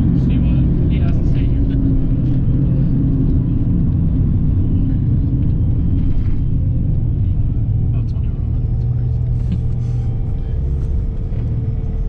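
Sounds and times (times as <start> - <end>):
car engine cruising drone: 0.0 - 12.0
road noise: 0.0 - 12.0.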